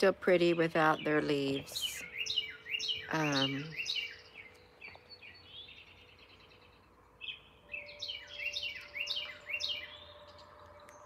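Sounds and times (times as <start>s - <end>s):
songbirds chirping: 0.0s - 11.0s
bird whistled notes: 1.0s - 6.6s, 7.2s - 11.0s.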